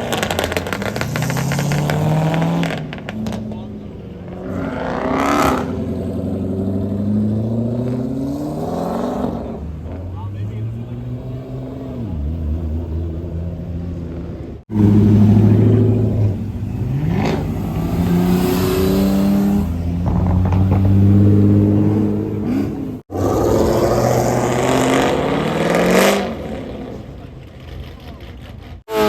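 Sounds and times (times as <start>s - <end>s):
car engines accelerating hard: 0.0s - 29.0s.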